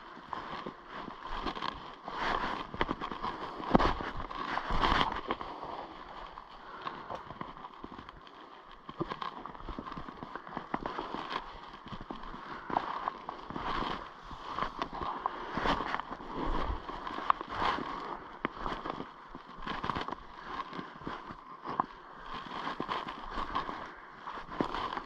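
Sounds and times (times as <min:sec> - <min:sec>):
twigs and dry leaves crackling underfoot: 0:00.0 - 0:25.0.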